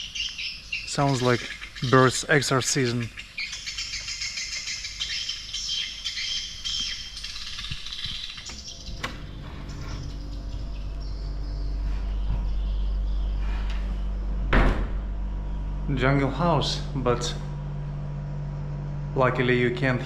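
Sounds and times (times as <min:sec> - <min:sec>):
birds twittering: 0:00.0 - 0:20.0
steady low hum: 0:00.0 - 0:20.0.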